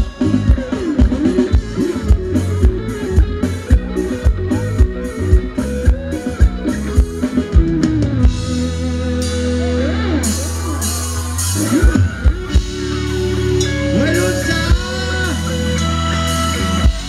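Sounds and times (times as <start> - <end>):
live band playing dance music: 0.0 - 17.0.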